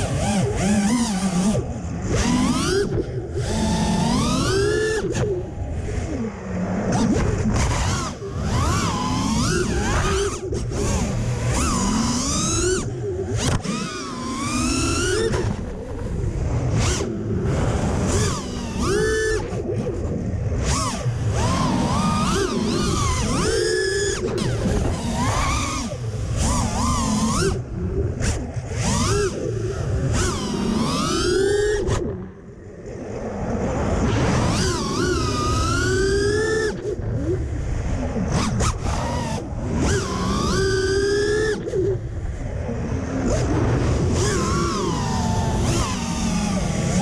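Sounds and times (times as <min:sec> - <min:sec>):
drone motors whining: 0:00.0 - 0:47.0
wind noise: 0:00.0 - 0:47.0.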